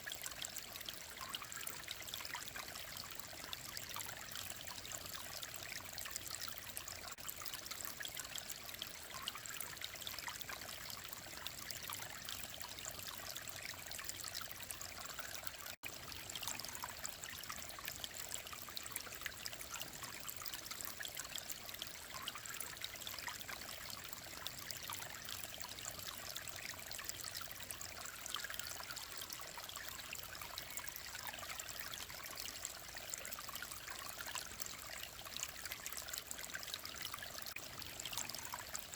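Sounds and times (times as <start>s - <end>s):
stream flowing and trickling: 0.0s - 38.9s.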